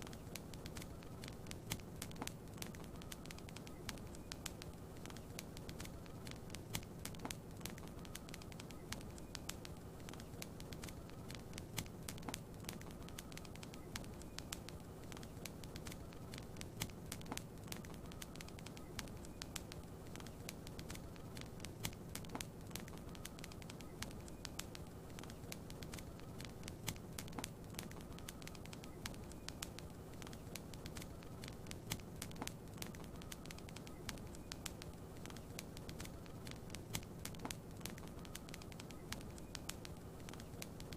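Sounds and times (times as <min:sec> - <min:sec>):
low background hiss: 0:00.0 - 0:40.9
wood fire crackling: 0:00.0 - 0:40.9.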